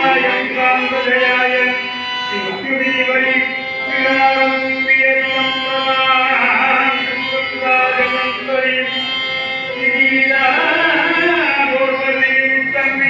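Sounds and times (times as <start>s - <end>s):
devotional singing: 0.0s - 13.0s
steady held drone: 0.0s - 13.0s.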